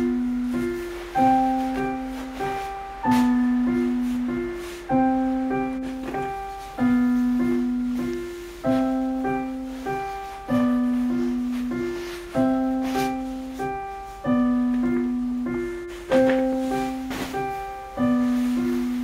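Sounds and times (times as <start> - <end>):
slow solo piano music: 0.0 - 19.0.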